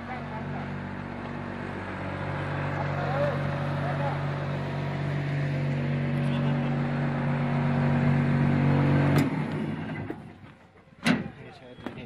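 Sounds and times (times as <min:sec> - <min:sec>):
diesel excavator engine running: 0:00.0 - 0:12.0.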